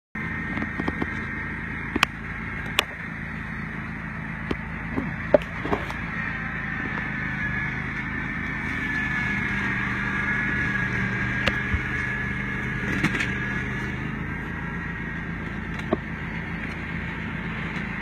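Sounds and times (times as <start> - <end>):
mower engine running: 0.2 - 18.0.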